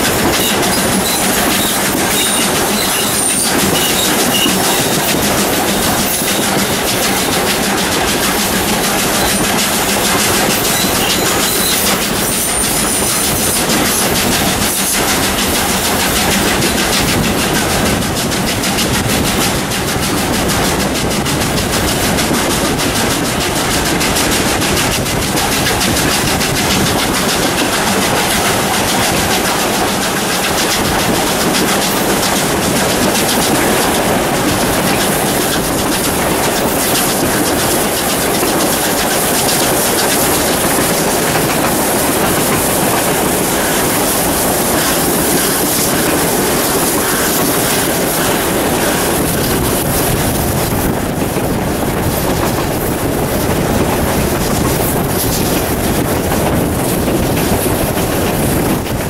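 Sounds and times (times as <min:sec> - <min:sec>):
steady loud rush of noise: 0:00.0 - 0:59.0
wheels clattering over rail joints: 0:00.0 - 0:59.0.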